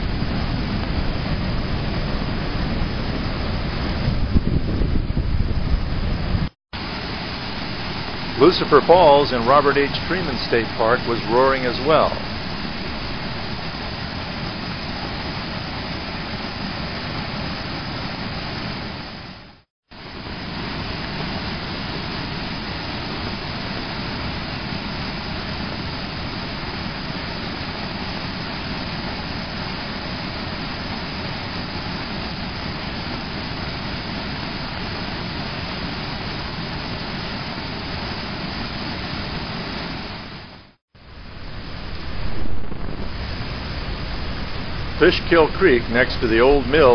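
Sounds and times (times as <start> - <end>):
waterfall roaring: 6.8 - 46.9.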